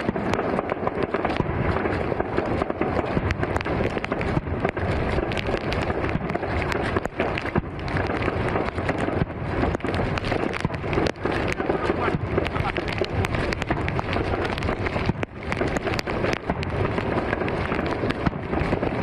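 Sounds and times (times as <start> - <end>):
fireworks crackling and banging: 0.0 - 19.0.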